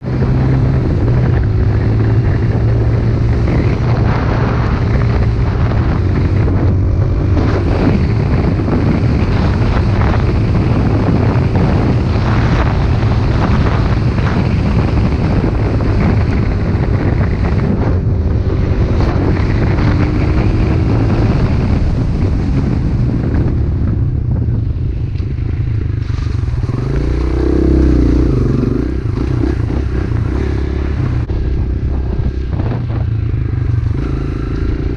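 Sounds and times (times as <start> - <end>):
wind on microphone: 0.0 - 34.9.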